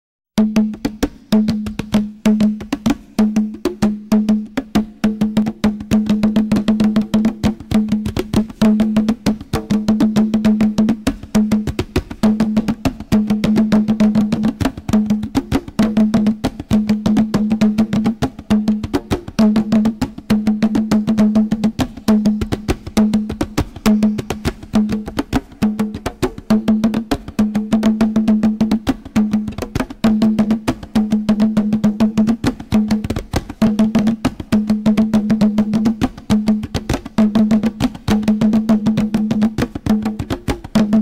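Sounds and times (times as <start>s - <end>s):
percussion music: 0.4s - 41.0s.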